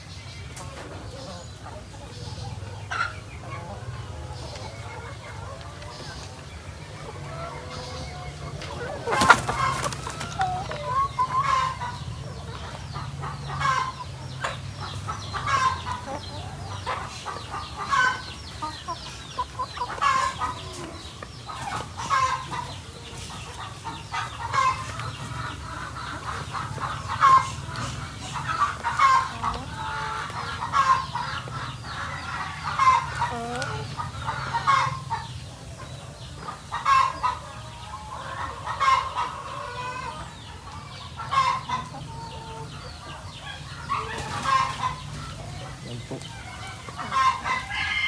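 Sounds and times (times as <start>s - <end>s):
hens clucking: 0.0s - 48.0s.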